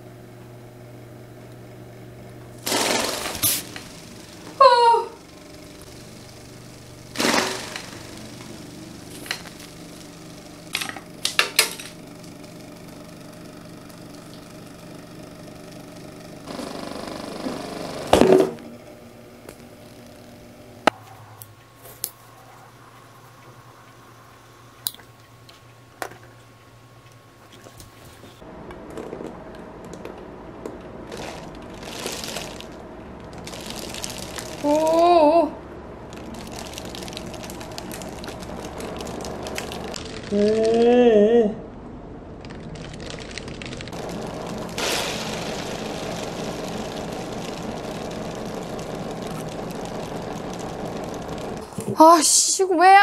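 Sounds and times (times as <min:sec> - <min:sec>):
electric fan motor humming: 0:00.0 - 0:53.0.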